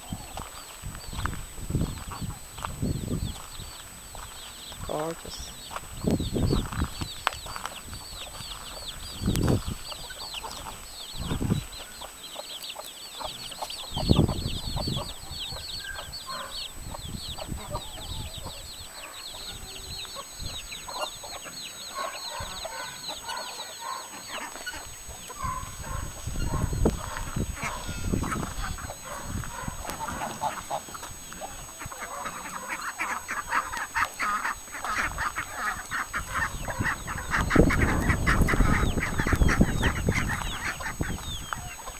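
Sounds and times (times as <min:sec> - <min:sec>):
chicks peeping: 0:00.0 - 0:41.9
hen clucking: 0:07.4 - 0:41.9.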